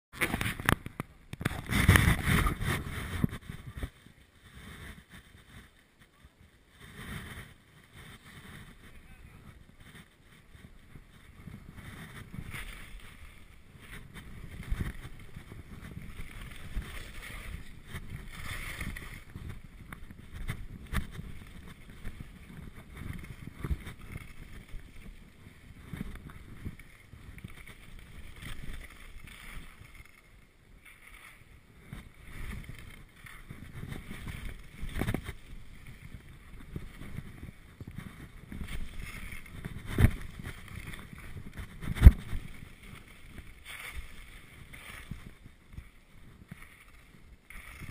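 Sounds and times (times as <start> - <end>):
skis scraping on snow: 0.2 - 47.9
wind on microphone: 0.2 - 47.9.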